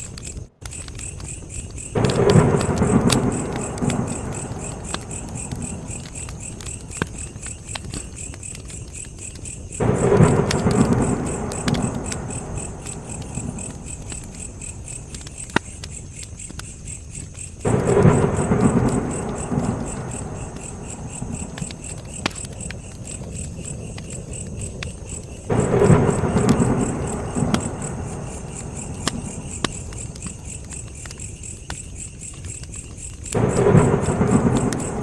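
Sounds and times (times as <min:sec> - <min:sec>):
crickets chirping: 0:00.0 - 0:35.0
fire crackling and popping: 0:00.0 - 0:35.0.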